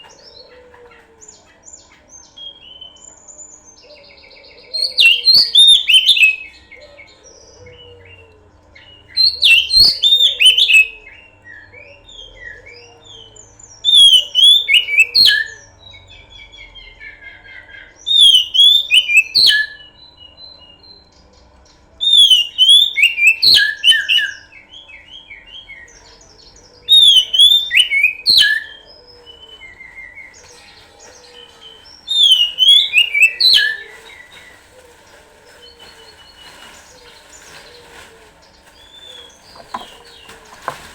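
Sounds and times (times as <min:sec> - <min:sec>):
faint steady hum: 0:00.0 - 0:40.9
quiet bird chirping: 0:00.0 - 0:40.9
songbird whistling song: 0:00.0 - 0:40.9.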